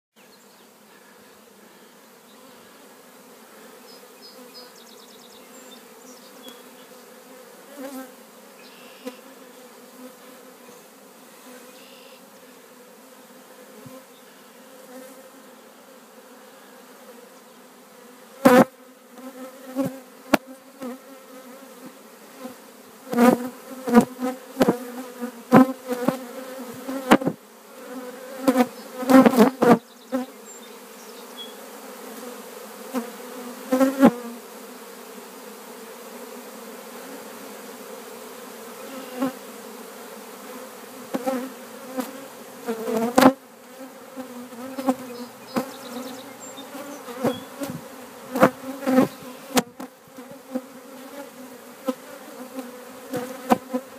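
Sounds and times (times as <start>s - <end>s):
honeybee swarm humming: 0.2s - 53.9s
loud short bee buzzes: 0.2s - 53.9s.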